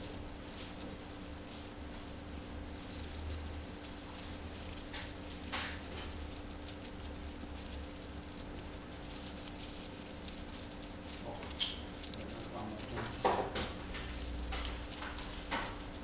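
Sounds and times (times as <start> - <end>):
rustling in dry hay: 0.0 - 16.0.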